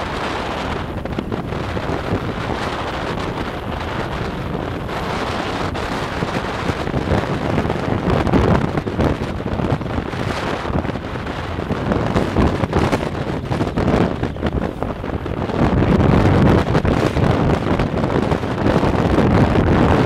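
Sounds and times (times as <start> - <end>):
road and traffic noise: 0.0 - 20.0
wind buffeting microphone: 0.0 - 20.0.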